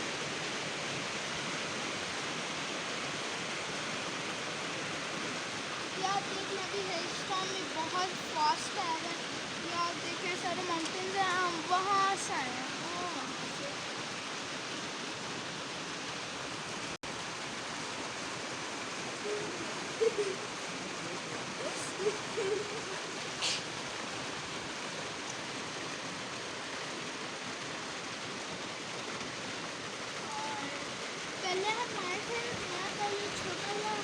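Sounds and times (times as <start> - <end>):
hail and rain falling: 0.0 - 34.0.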